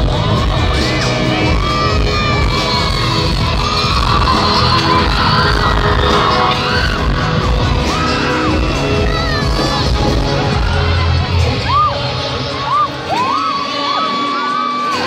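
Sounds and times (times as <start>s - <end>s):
fans whooping and screaming: 0.0s - 15.0s
live concert music with heavy bass: 0.0s - 15.0s.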